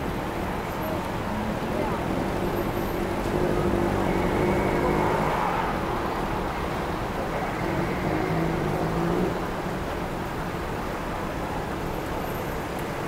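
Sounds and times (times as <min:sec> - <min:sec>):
cars passing: 0:00.0 - 0:13.0
engine and tyre noise: 0:00.0 - 0:13.0.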